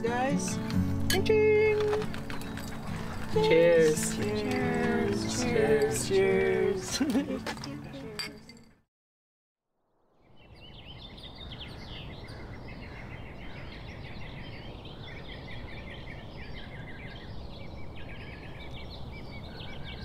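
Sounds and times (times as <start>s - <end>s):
small birds chirping: 0.1s - 6.7s, 10.2s - 20.0s.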